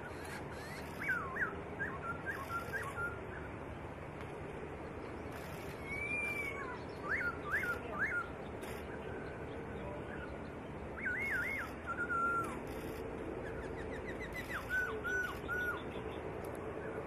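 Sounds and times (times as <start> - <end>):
bird singing whistled notes: 0.1 - 3.5, 5.4 - 16.2.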